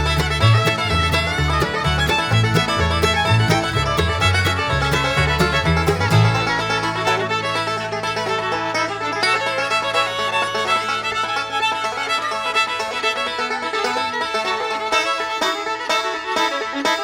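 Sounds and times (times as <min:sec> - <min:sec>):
upbeat fiddle and banjo music: 0:00.0 - 0:17.0.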